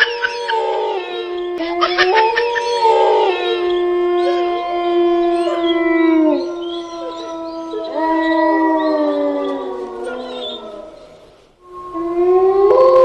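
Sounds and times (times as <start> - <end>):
dogs howling: 0.0 - 13.0.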